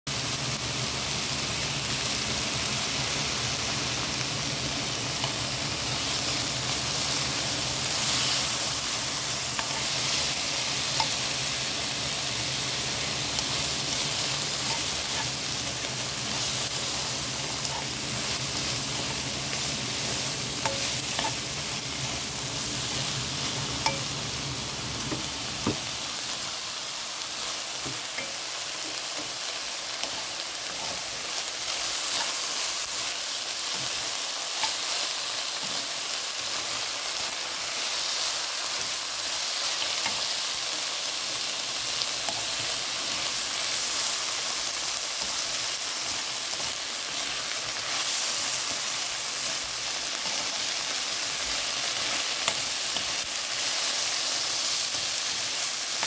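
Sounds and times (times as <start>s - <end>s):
vegetables sizzling in frying pan: 0.1s - 56.0s.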